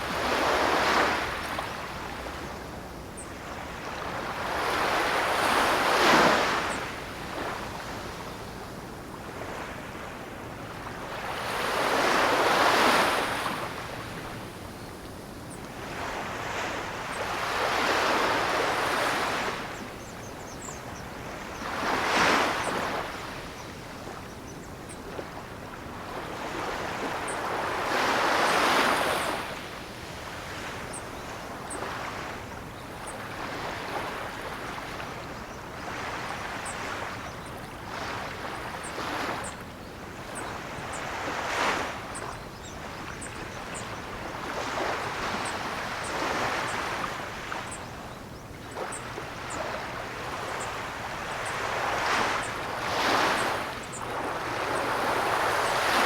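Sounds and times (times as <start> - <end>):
ocean waves surging and washing: 0.0 - 20.0, 20.6 - 56.0.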